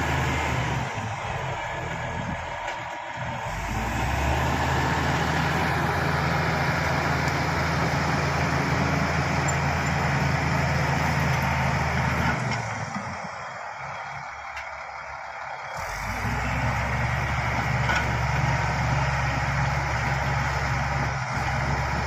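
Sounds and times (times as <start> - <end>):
bulldozer diesel engine under load: 0.0 - 22.0.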